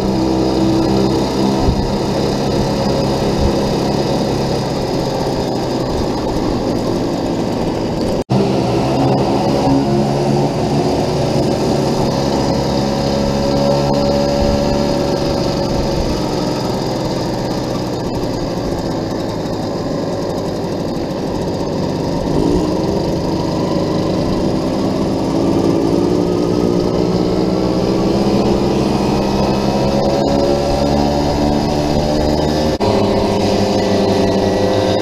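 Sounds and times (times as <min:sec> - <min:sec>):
two-stroke moped engine revving: 0:00.0 - 0:35.0.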